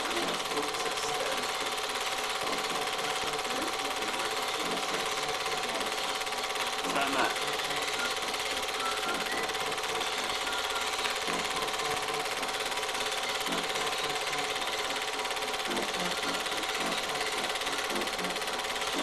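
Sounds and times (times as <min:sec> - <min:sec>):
film projector clatter: 0:00.0 - 0:19.0.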